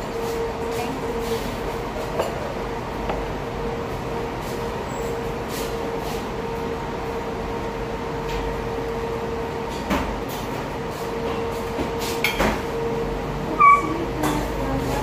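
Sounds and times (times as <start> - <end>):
restaurant room hum: 0.0 - 15.0.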